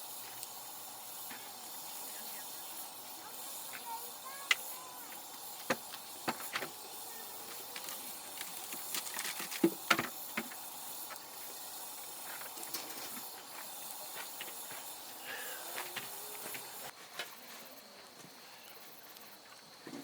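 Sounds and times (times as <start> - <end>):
campfire crackling and popping: 0.0 - 16.9
steady fire hiss: 0.0 - 20.0.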